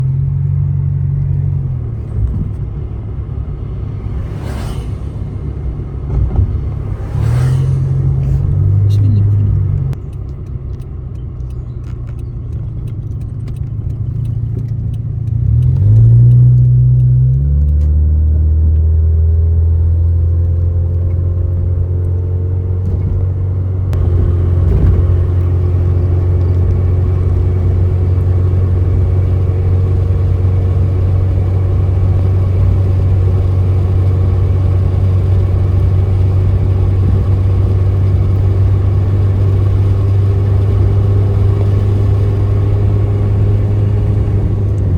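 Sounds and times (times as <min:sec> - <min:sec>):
car engine and road noise: 0:00.0 - 0:44.9.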